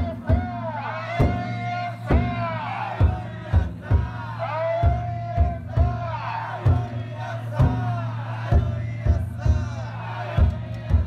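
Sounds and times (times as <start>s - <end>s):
big drum strokes: 0.0s - 11.0s
crowd: 0.0s - 11.0s
people chanting in unison: 0.0s - 11.0s.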